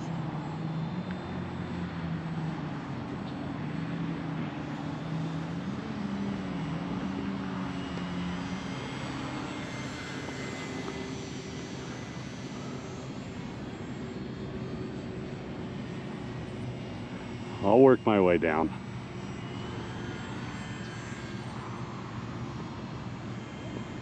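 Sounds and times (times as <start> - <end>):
model plane propeller drone: 0.0 - 24.0.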